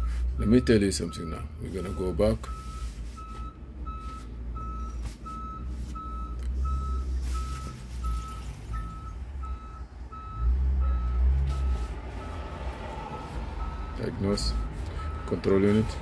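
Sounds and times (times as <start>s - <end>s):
electronic warning beeps: 0.0s - 12.4s, 13.2s - 16.0s.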